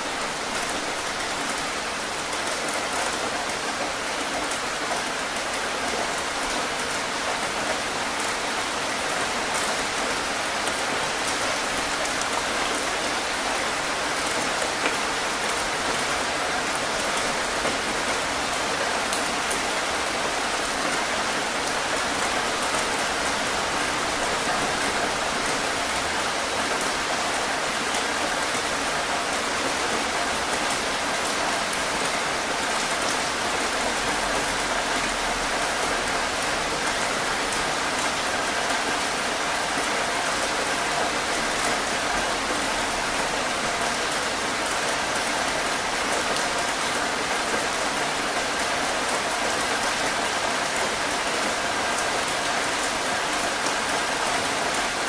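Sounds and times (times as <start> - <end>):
heavy rain on a hard surface: 0.0 - 55.0.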